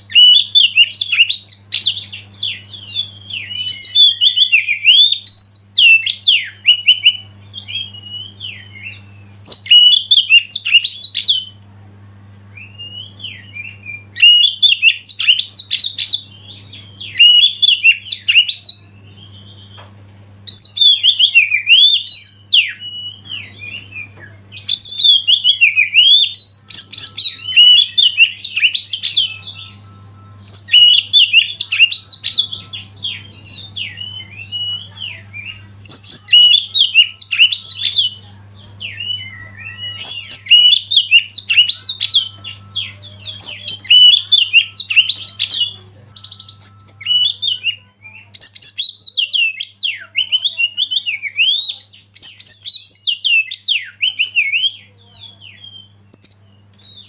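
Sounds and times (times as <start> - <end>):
bird singing whistled song: 0.0 - 11.5, 12.5 - 57.0
faint low hum: 0.0 - 57.0.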